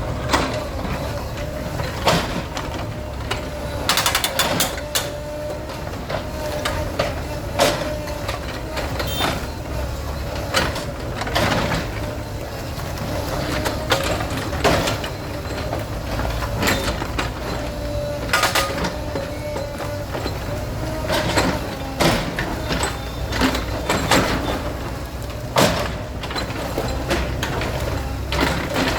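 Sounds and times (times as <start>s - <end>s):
bulldozer diesel engine running: 0.0s - 28.9s.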